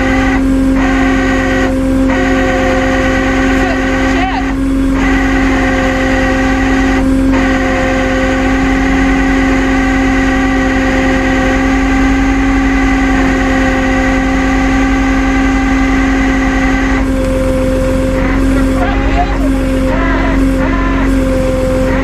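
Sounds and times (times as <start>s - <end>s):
tow truck engine rumble: 0.0s - 22.0s
winch high whine: 0.0s - 22.0s.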